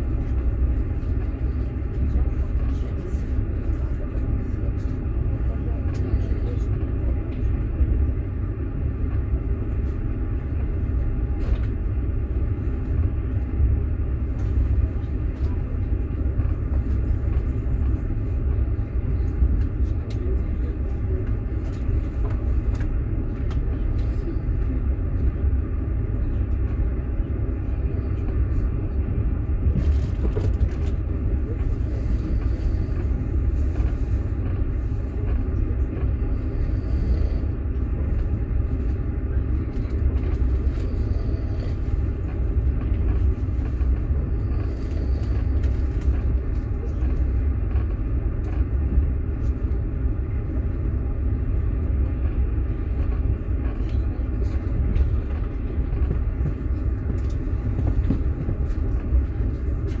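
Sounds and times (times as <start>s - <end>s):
train carriage rumbling on rails: 0.0s - 60.0s.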